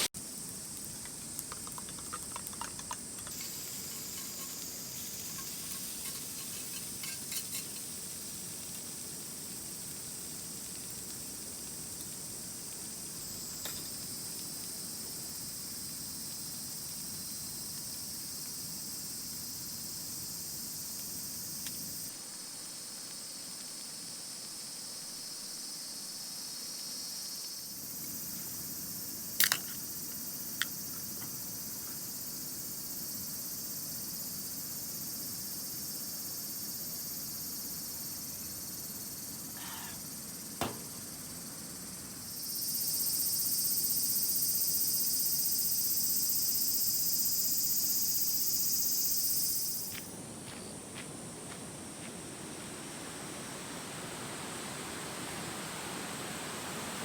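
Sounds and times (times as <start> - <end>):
insects singing: 0.0 - 22.1, 26.8 - 51.0.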